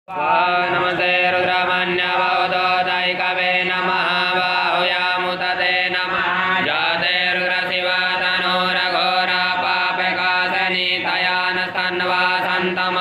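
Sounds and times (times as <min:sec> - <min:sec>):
person chanting mantras: 0:00.1 - 0:13.0.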